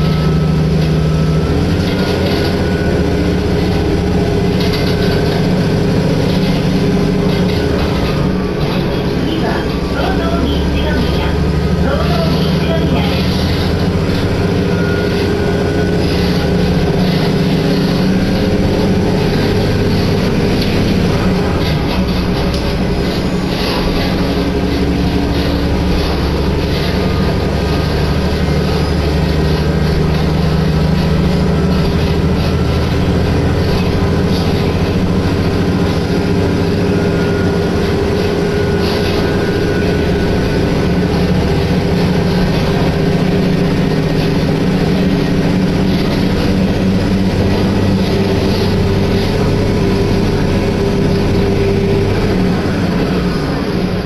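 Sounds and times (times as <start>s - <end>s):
railcar engine drone: 0.0s - 54.0s
wheels on rails: 0.0s - 54.0s.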